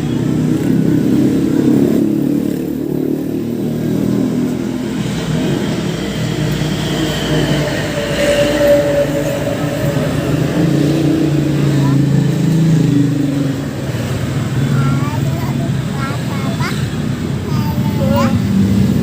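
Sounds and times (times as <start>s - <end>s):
vehicle engine and road hum: 0.0s - 19.0s.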